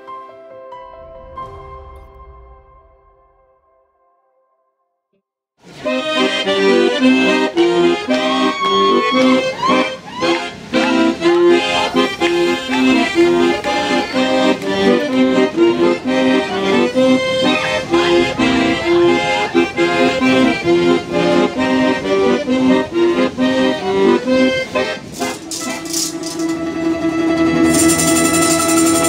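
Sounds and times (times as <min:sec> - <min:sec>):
accordion tune: 0:05.6 - 0:29.0.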